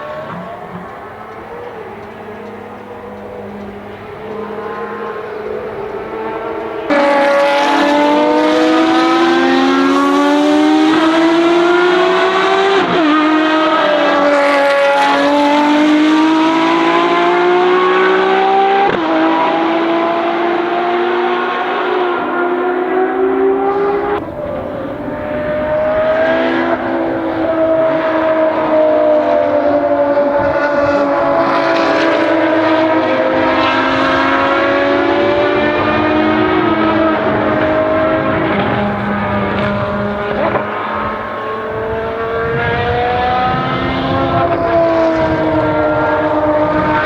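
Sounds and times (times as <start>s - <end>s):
racing car engine accelerating: 0.0s - 47.0s.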